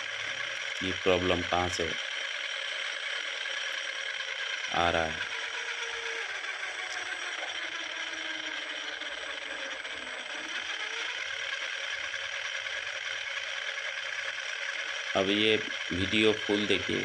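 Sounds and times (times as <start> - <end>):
electric motor rattling and scraping: 0.0 - 17.0.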